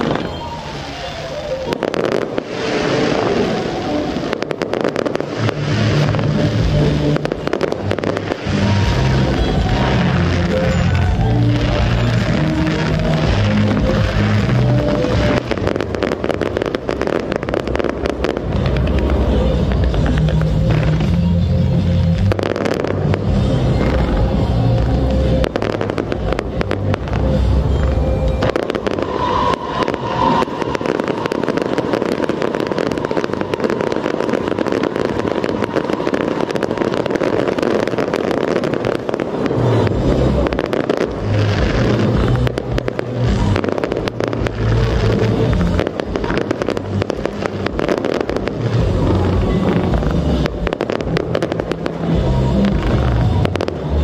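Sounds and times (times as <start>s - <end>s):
fireworks crackling: 0.0s - 54.0s
fireworks shells booming: 0.0s - 54.0s
music playing: 0.0s - 54.0s.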